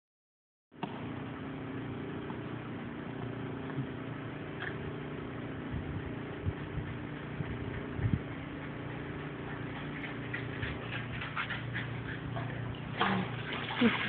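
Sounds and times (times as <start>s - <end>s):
low engine hum: 0.8s - 14.0s.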